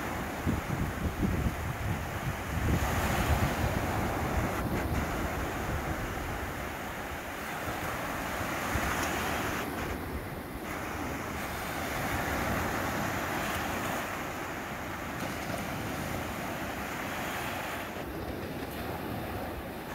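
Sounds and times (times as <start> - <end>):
waves washing up a beach: 0.0 - 19.9
wind rumbling on the microphone: 0.0 - 19.9.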